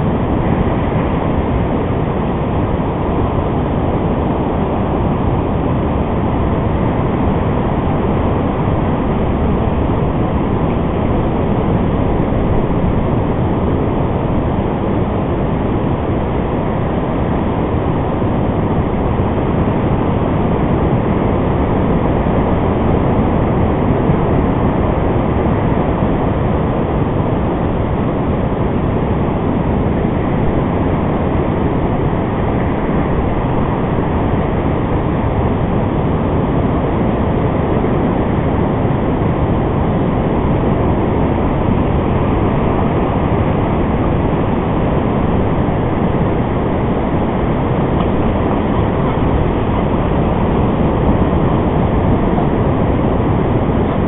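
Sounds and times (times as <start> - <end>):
ocean surf rushing: 0.0 - 54.0
wind on microphone: 0.0 - 54.0.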